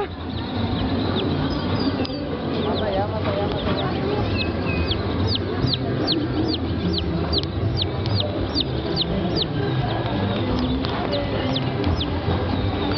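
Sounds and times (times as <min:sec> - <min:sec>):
fairground rumble: 0:00.0 - 0:12.9.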